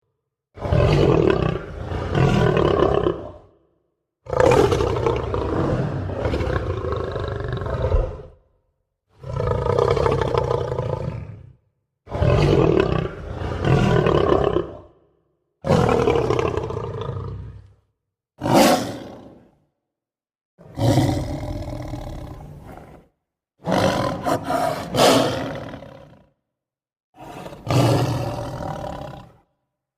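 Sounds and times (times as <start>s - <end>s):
lion roaring: 0.6s - 3.6s, 4.2s - 8.5s, 9.2s - 15.0s, 15.6s - 17.8s, 18.4s - 19.6s, 20.6s - 26.4s, 27.2s - 29.5s.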